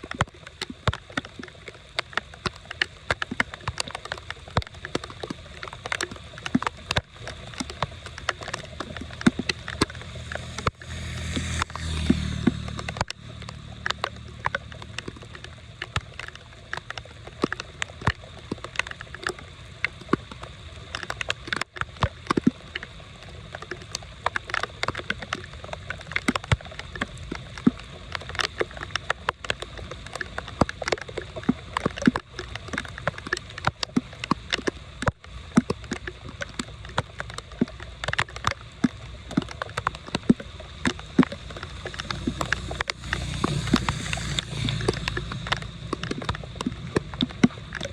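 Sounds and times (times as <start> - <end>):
drain water rushing and gurgling: 0.0 - 47.9
low steady rumble: 0.0 - 47.9
sharp pops and splashes: 0.0 - 47.9.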